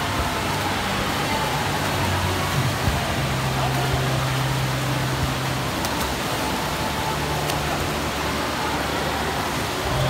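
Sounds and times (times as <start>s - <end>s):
water gushing into pool: 0.0s - 10.0s.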